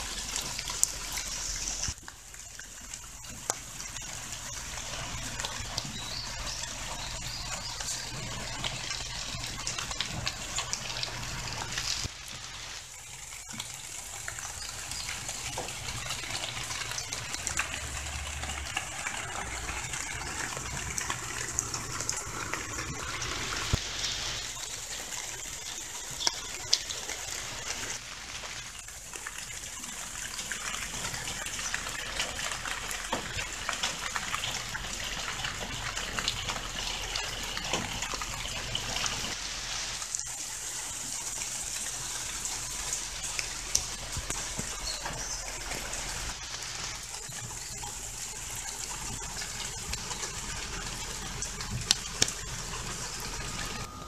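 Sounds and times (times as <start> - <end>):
water drips: 0.0 - 54.0
water trickling into a pond: 0.0 - 54.0.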